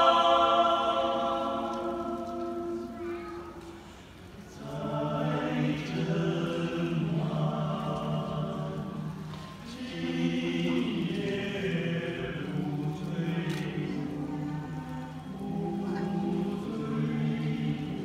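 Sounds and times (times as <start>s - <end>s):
male vocal ensemble singing chords: 0.0s - 3.0s, 4.5s - 18.0s.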